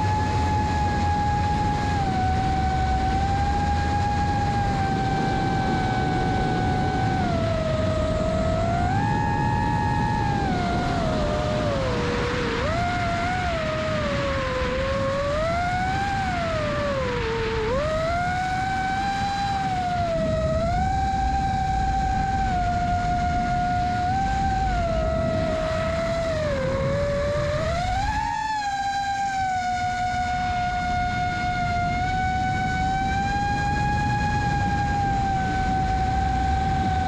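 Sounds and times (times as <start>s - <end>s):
drone motors whining: 0.0s - 37.0s
wind rumble on microphone: 0.0s - 37.0s.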